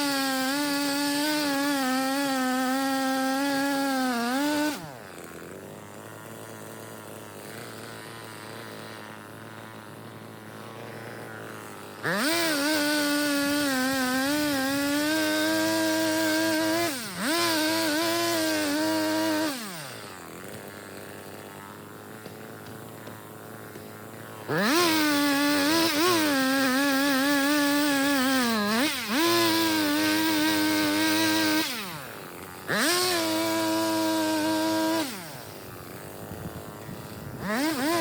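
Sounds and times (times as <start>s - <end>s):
chainsaw revving: 0.0s - 38.0s.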